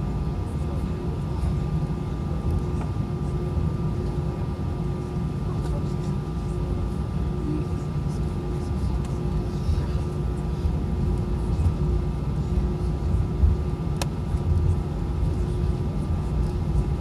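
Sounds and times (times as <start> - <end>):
airplane cabin rumble and engine hum: 0.0 - 17.0.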